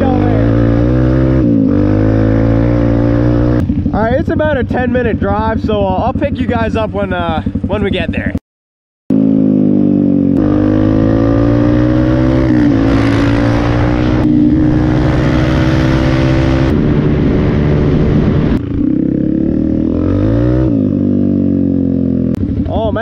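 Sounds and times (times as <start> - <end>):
dirt bike engine running: 0.0 - 8.4, 9.1 - 23.0.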